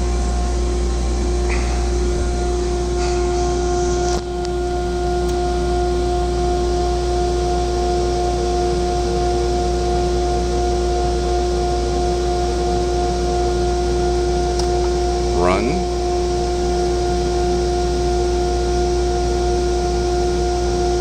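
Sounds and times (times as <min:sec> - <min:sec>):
vacuum blowers running: 0:00.0 - 0:21.0.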